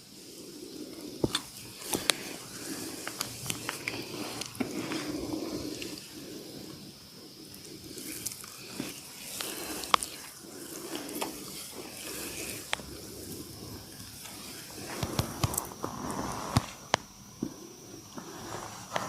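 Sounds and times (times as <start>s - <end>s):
oiled hands rubbing skin: 0.2s - 17.0s.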